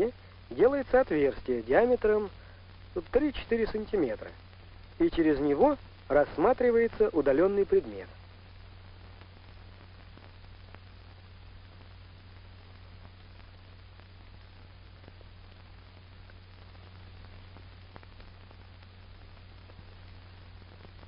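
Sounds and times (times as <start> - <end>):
film soundtrack hiss: 0.0 - 21.0.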